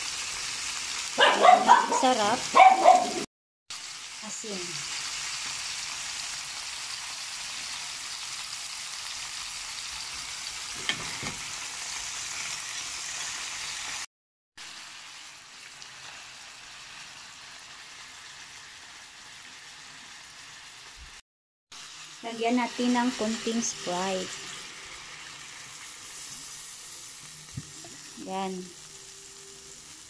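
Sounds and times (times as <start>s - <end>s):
crabs sizzling in hot oil: 0.0s - 30.0s.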